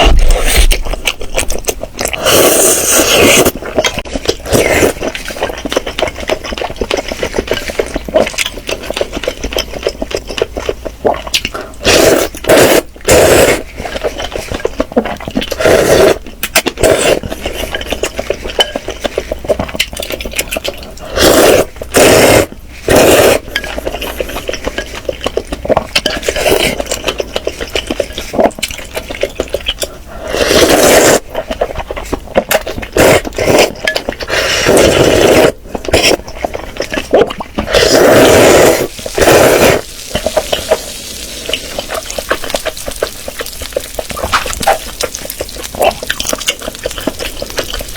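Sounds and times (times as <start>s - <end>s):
wet chewing and crackling: 0.0s - 47.9s.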